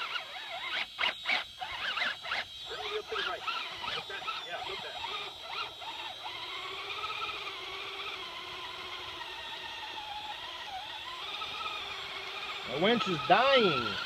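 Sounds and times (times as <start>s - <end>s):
electric winch motor whining: 0.0s - 14.0s.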